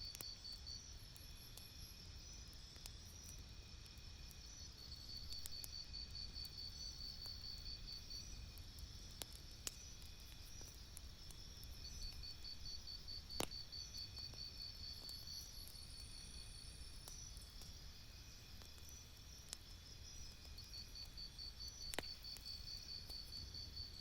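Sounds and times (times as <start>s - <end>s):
campfire crackling and popping: 0.1s - 24.0s.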